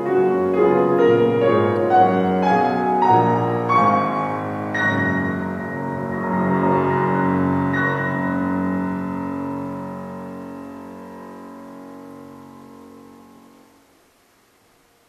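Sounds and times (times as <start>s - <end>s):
piano chords: 0.0s - 13.9s.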